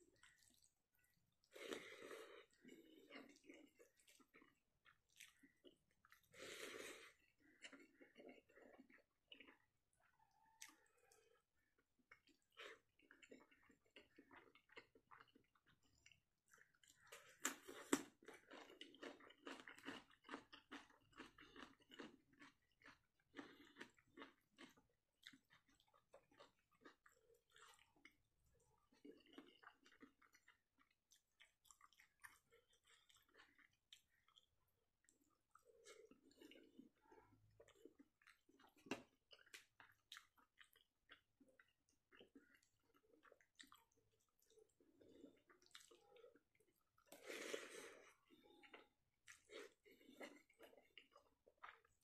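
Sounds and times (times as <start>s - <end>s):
chewing with wet mouth sounds: 0.0s - 52.0s.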